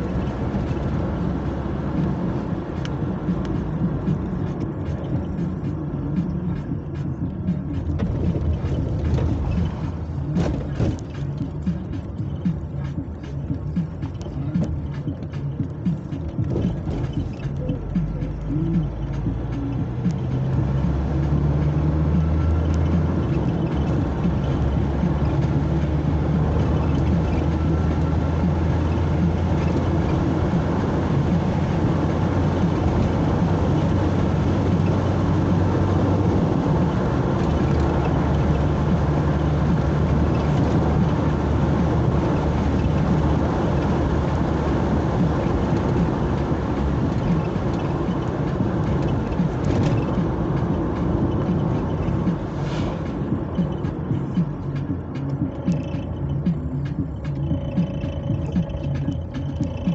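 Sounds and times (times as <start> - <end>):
road and tyre noise: 0.0 - 59.9
vehicle engine drone: 0.0 - 59.9.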